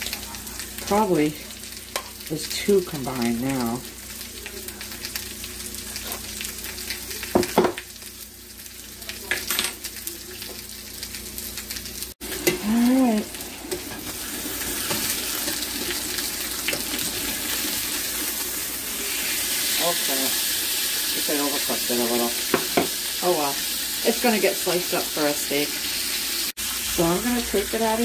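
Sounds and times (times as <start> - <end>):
steak sizzling in skillet: 0.0 - 28.0.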